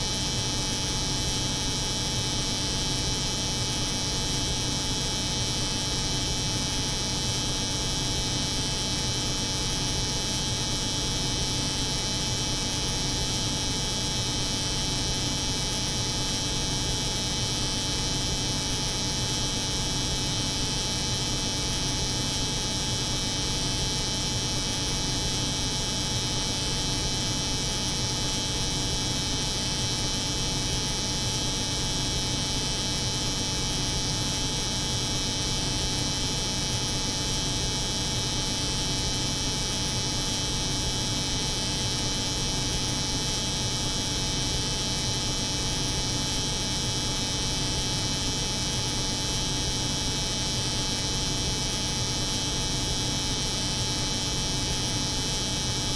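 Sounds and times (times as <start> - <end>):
refrigeration unit hum: 0.0 - 55.9.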